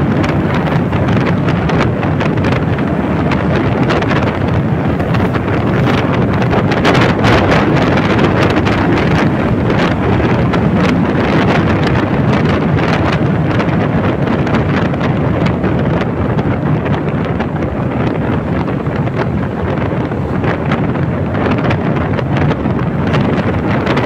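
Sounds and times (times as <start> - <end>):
scooter running: 0.0 - 24.0
wind buffeting microphone: 0.0 - 24.0.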